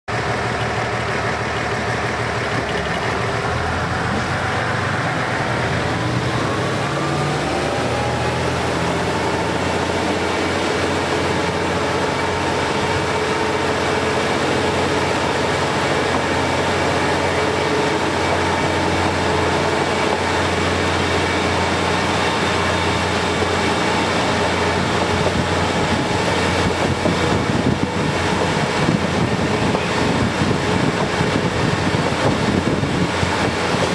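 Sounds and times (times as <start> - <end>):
diesel engine revving: 0.1 - 33.9
train rail rumble: 0.1 - 33.9.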